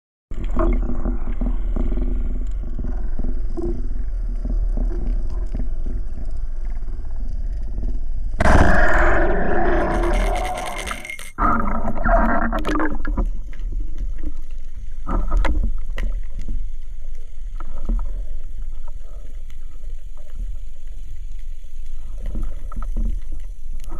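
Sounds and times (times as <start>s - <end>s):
low underwater rumble: 0.3s - 23.9s
water gurgling: 0.4s - 20.5s.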